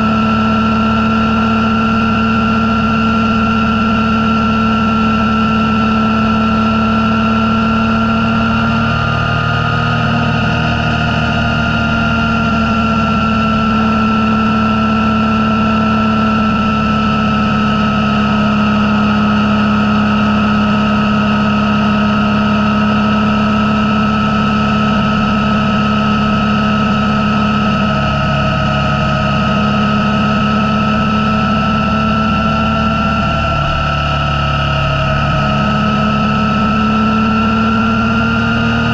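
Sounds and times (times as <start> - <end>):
high whine: 0.0 - 38.9
motorcycle engine cruising: 0.0 - 38.9.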